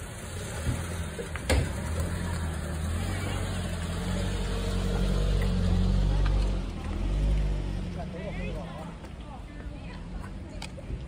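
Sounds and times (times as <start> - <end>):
taxi engine idling: 0.0 - 10.5.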